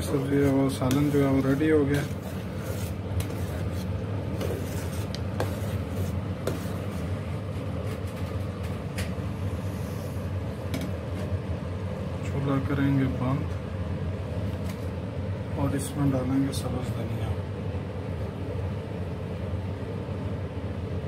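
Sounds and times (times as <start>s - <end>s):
stove burner hum: 0.0s - 21.0s.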